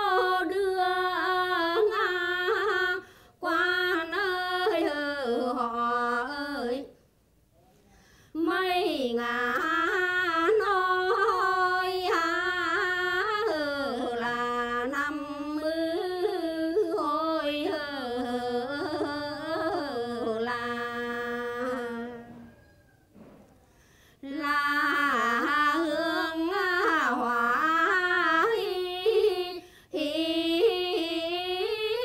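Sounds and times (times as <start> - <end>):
women singing unaccompanied: 0.0 - 7.0, 8.4 - 22.7, 24.2 - 32.0.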